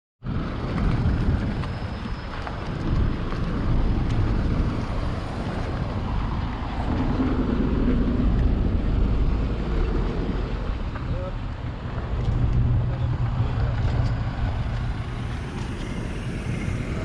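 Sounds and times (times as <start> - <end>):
steady low rumble: 0.2 - 17.0
wind buffeting microphone: 0.2 - 17.0.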